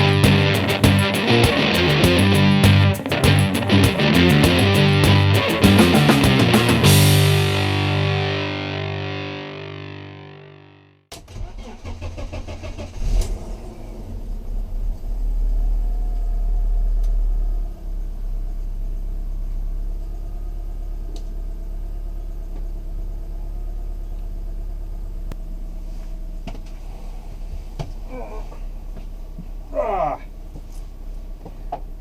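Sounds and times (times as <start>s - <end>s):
car engine starting and idling: 0.0s - 10.1s, 11.1s - 32.0s.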